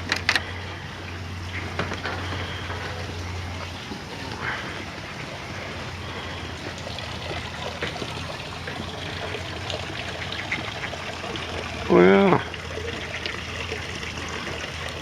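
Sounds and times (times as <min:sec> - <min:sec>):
faint water splashes: 0:00.0 - 0:15.0
water trickling: 0:00.0 - 0:15.0.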